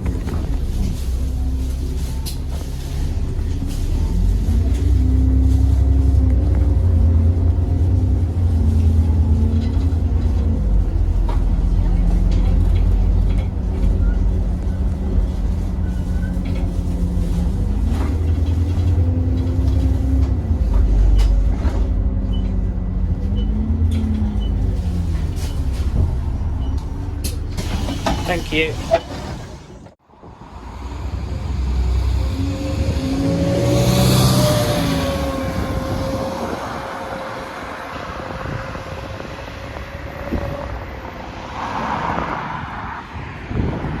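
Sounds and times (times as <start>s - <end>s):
bus engine rumbling: 0.0s - 44.0s
road noise: 0.0s - 44.0s.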